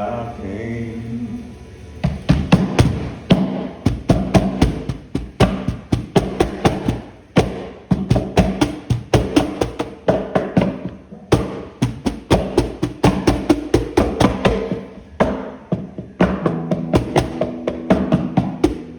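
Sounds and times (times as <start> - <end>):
instrumental music with drum beat: 2.3 - 18.9.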